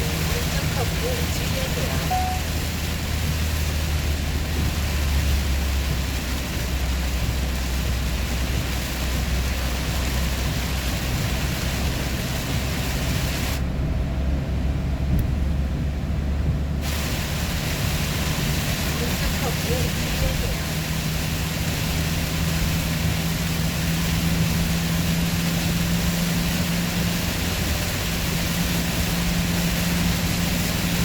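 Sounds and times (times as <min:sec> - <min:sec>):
engine and drivetrain drone: 0:00.0 - 0:31.0
rush of tyres and wind: 0:00.0 - 0:31.0.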